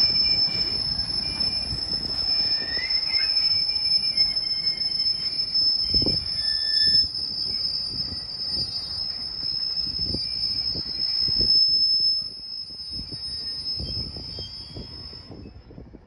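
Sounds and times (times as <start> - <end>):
train wheels squealing on rails: 0.0 - 16.0.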